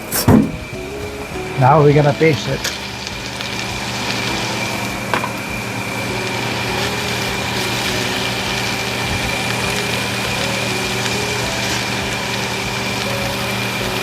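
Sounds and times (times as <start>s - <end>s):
exhaust fan motor hum: 0.0s - 14.0s
thin high whine: 0.0s - 14.0s.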